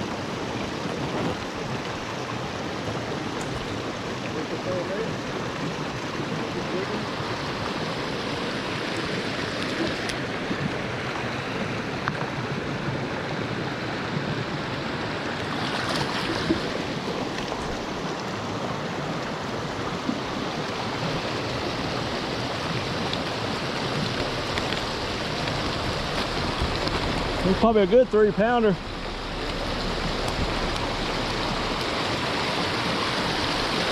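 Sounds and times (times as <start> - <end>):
creek water rushing: 0.0 - 33.9.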